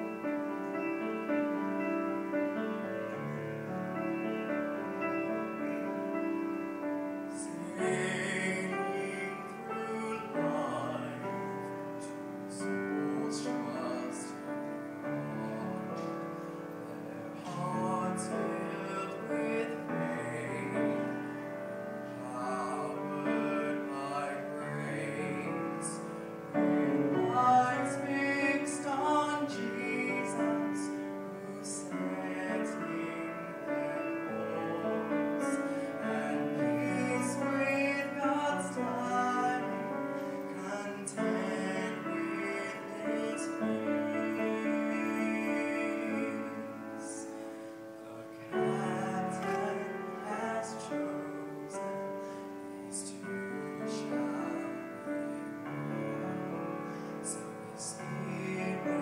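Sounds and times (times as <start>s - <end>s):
grand piano playing slowly: 0.0s - 59.0s
man singing a ballad: 0.0s - 59.0s.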